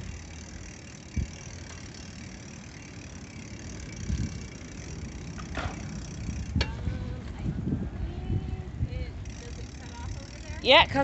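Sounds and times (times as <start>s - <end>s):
bicycle tyres rumbling on bricks: 0.0s - 11.0s.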